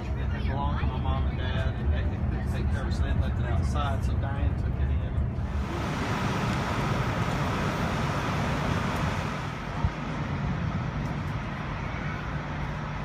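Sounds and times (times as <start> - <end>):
motor vehicle rumble and hiss: 0.0 - 13.0.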